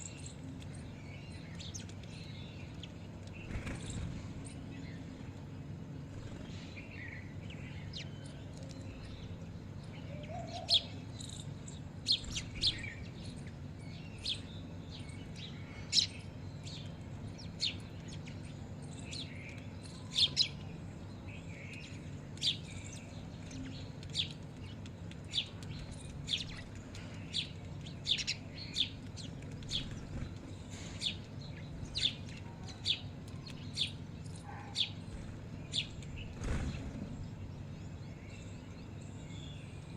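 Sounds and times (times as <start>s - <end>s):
low steady hum: 0.0s - 39.9s
small birds chirping: 0.0s - 39.9s.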